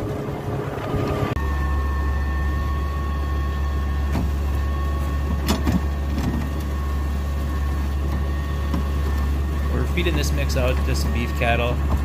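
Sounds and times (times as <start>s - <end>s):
mixer machine droning: 0.0s - 12.0s.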